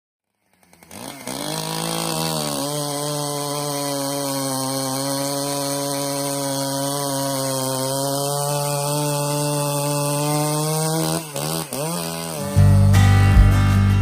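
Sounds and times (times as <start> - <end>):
chainsaw engine revving: 0.3 - 14.0.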